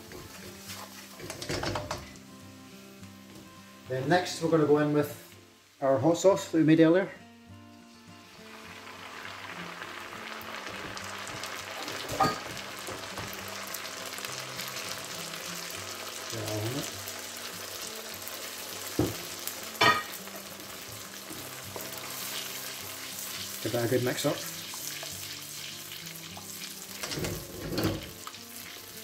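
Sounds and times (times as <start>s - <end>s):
sizzling in a wok: 0.0s - 6.5s, 7.7s - 29.0s.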